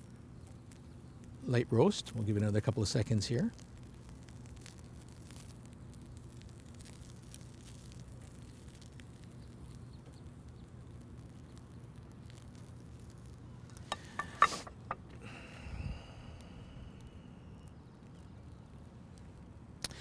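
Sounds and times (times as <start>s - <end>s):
asparagus sizzling on a grill: 0.0s - 20.0s.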